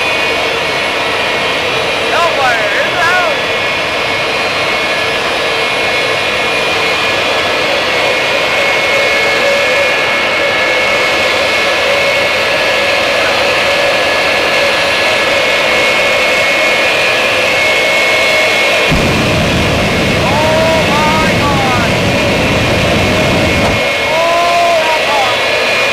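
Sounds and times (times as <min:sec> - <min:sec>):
turbojet engine running: 0:00.0 - 0:25.9.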